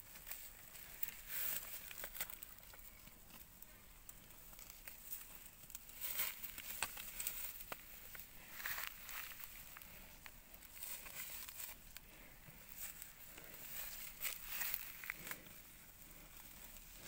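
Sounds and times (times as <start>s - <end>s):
rustling and crackling of hair: 0.0s - 17.0s.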